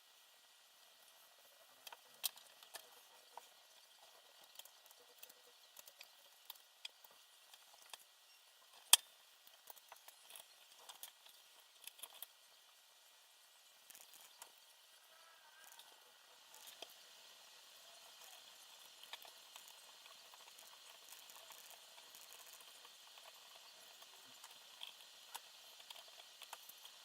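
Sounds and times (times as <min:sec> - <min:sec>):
faint steady hiss: 0:00.0 - 0:27.0
small parts and tools clicking: 0:00.8 - 0:27.0.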